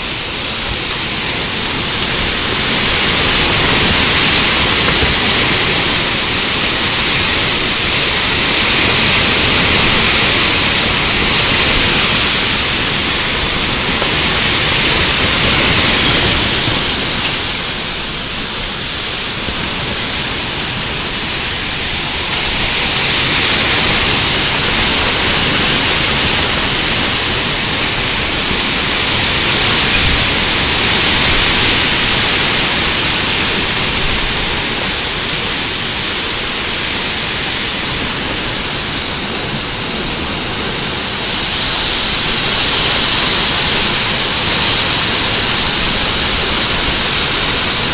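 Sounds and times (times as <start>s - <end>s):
driving rain: 0.0s - 47.9s
wind rushing through trees: 0.0s - 47.9s.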